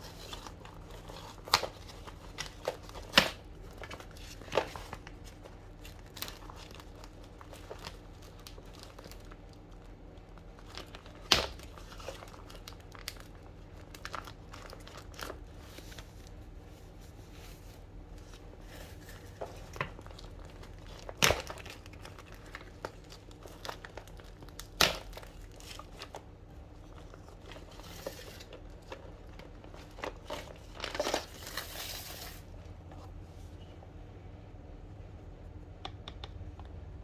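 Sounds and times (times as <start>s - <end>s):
packaging crinkling and rustling: 0.0s - 33.6s.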